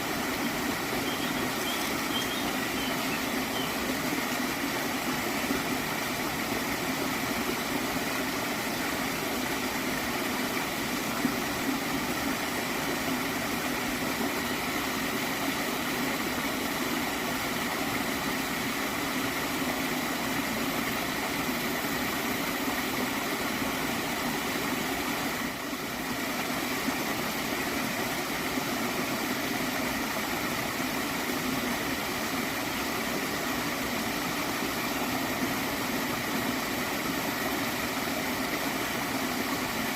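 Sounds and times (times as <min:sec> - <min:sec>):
stream gurgling: 0:00.0 - 0:39.9.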